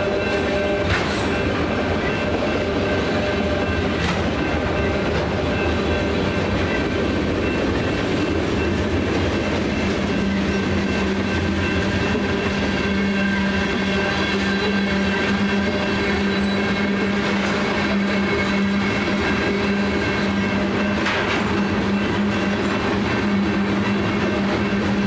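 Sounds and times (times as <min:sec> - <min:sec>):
freight train wheels clattering: 0:00.0 - 0:25.0.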